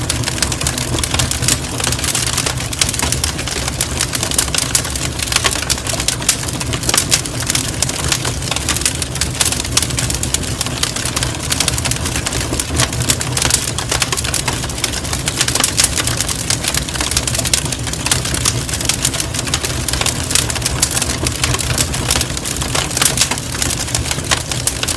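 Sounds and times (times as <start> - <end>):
low fire rumble: 0.0 - 24.9
wood crackling and popping: 0.0 - 24.9.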